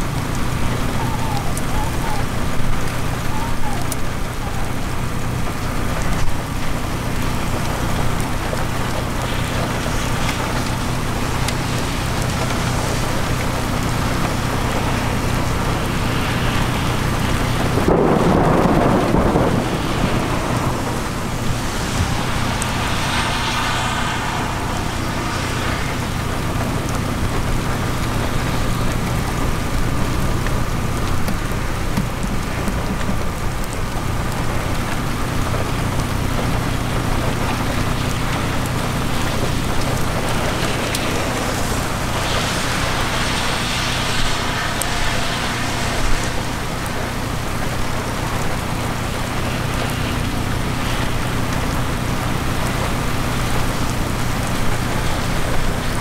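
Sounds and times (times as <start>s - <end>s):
heavy rain: 0.0s - 56.0s
thunder rumble: 0.0s - 56.0s.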